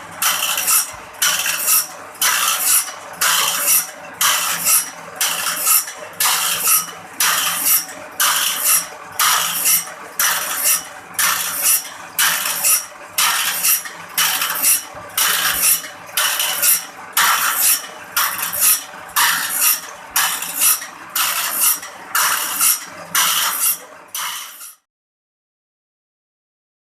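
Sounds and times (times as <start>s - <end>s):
faint motor hum: 0.0s - 24.2s
file rasping on saw blade: 0.2s - 24.8s.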